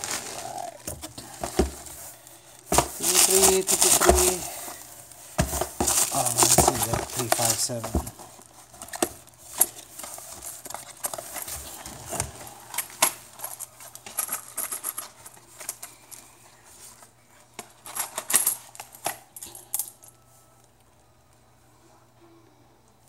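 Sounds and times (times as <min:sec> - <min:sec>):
cardboard packaging rustling: 0:00.0 - 0:19.0.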